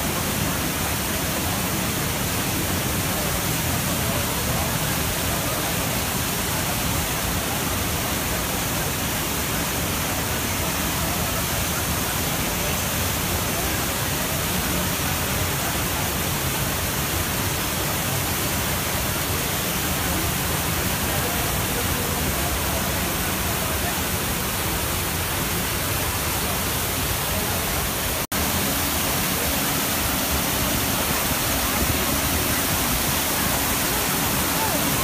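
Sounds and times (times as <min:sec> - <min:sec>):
fountain water splashing: 0:00.0 - 0:35.0.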